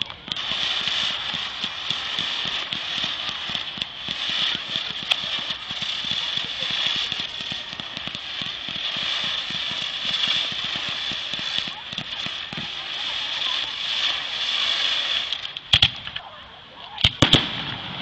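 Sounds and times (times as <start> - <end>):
sharp firework crack: 0.0 - 16.3, 17.0 - 18.0
fireworks crackling and popping: 0.0 - 18.0.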